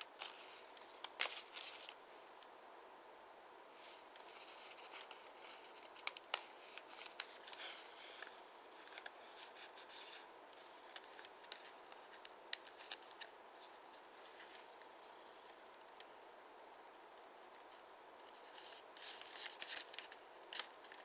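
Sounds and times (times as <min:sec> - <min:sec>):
crisp ticks of paper creasing: 0:00.0 - 0:02.0, 0:04.1 - 0:16.1, 0:17.5 - 0:21.0
paper rustling: 0:00.0 - 0:02.0, 0:03.8 - 0:15.6, 0:17.6 - 0:21.0.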